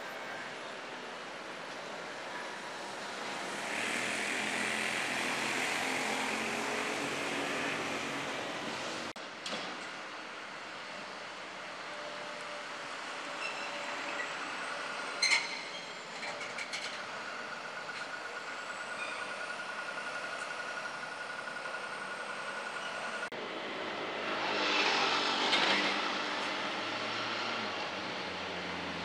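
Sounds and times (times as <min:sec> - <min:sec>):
lorries passing: 0:00.1 - 0:09.2, 0:11.6 - 0:29.0.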